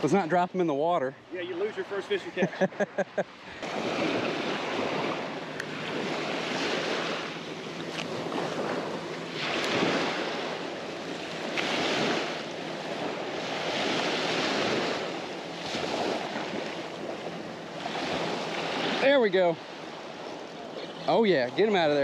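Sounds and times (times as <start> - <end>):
waves breaking on sandy beach: 0.0 - 22.0.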